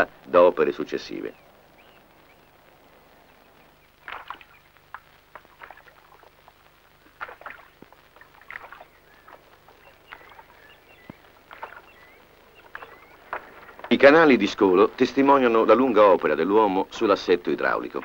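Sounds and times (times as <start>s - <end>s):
paddles splashing in water: 1.0s - 16.4s.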